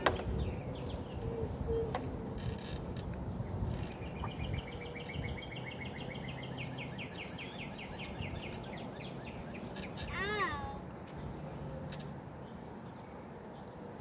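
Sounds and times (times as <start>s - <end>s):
low wind rumble: 0.0s - 11.7s
bird singing a trill: 0.0s - 14.0s.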